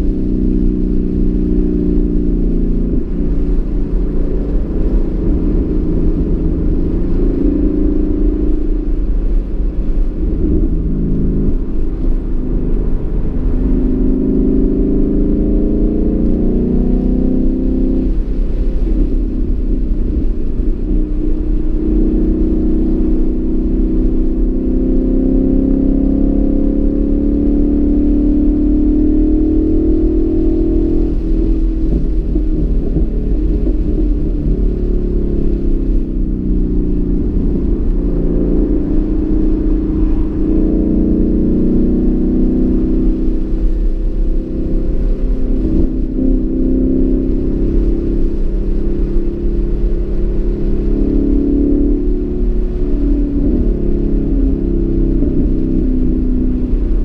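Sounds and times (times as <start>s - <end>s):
car engine accelerating hard: 0.0s - 57.0s
low rumble: 0.0s - 57.0s.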